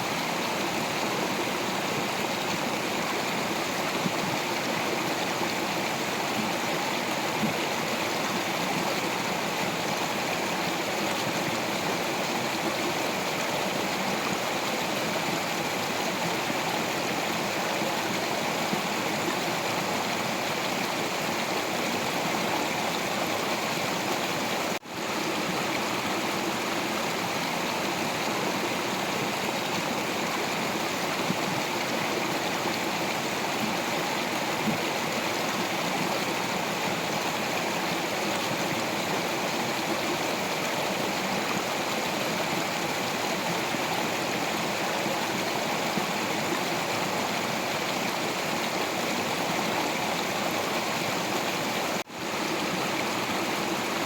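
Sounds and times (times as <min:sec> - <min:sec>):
water flowing over rocks: 0:00.0 - 0:54.0.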